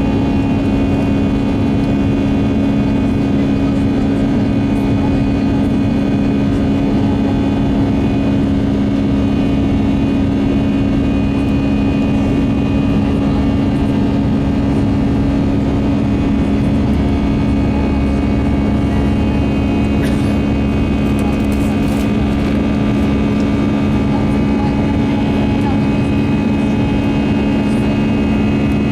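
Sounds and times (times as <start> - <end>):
jet engine cabin drone: 0.0 - 28.9.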